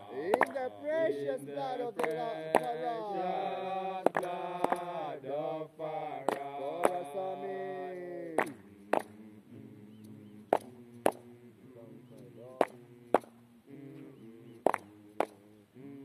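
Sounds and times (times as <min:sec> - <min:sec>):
voices chanting held notes: 0:00.0 - 0:16.0.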